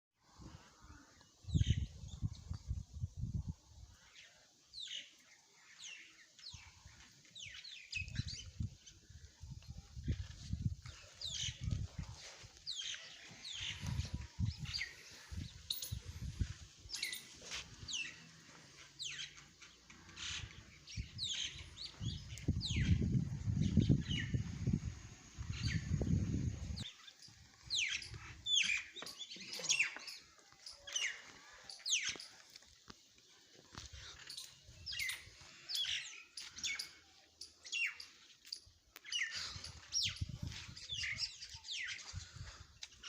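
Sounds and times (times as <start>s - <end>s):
small birds chirping: 0.4s - 43.0s.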